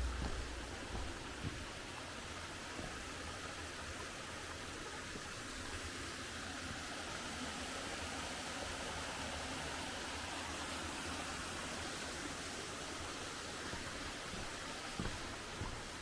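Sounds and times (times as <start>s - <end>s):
mountain stream flowing over rocks: 0.0s - 16.0s.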